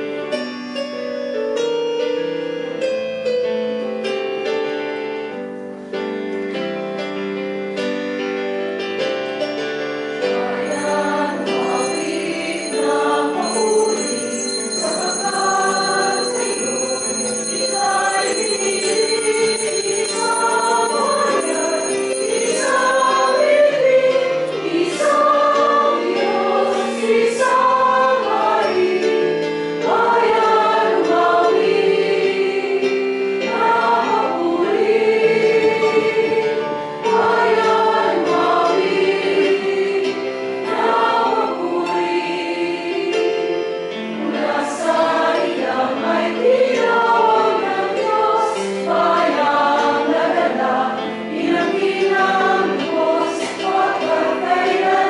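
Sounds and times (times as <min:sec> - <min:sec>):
keyboard accompaniment: 0:00.0 - 0:55.0
group singing a hymn: 0:10.2 - 0:55.0.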